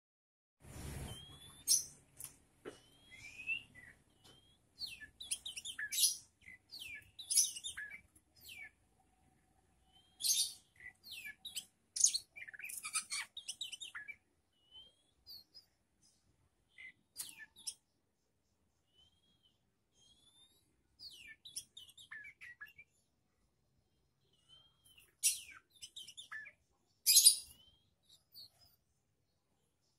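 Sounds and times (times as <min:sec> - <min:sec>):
songbird chirps and trills: 0:00.7 - 0:29.9.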